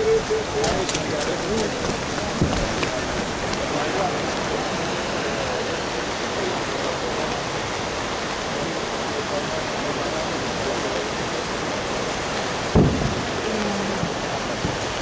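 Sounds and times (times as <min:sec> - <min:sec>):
rapids rushing over rocks: 0:00.0 - 0:15.0.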